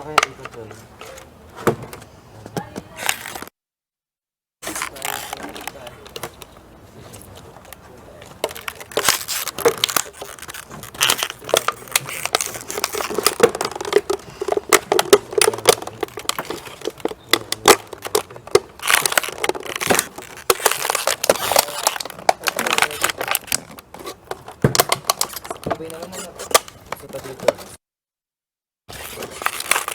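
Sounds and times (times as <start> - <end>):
plastic and tape crinkling: 2.6 - 3.5, 4.6 - 27.8, 28.9 - 29.9.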